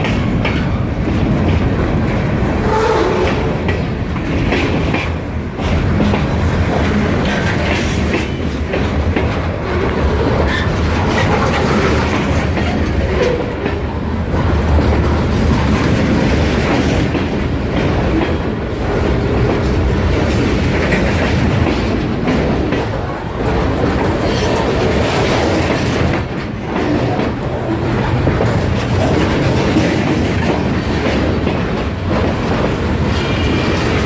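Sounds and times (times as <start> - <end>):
freight train rumbling: 0.0 - 34.0
wheels clicking over rail joints: 0.0 - 34.0.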